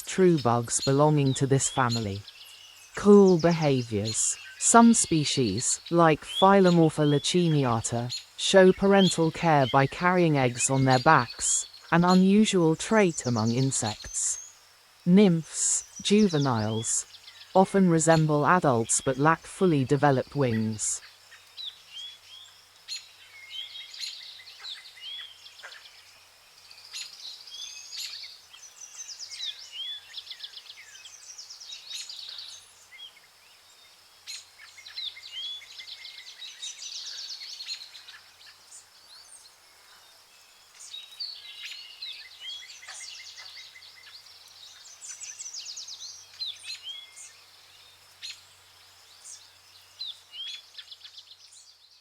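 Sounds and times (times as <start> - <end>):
birds chirping and trilling: 0.0 - 14.6, 15.2 - 26.1, 26.7 - 33.2, 34.3 - 52.0.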